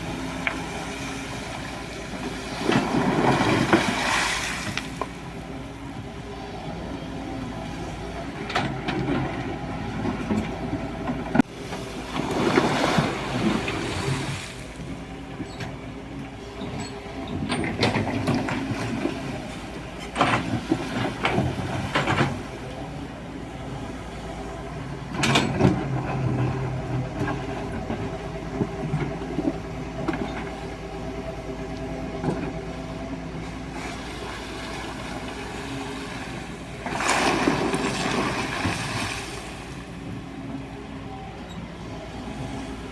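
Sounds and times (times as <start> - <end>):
excavator engine running: 0.0 - 42.9.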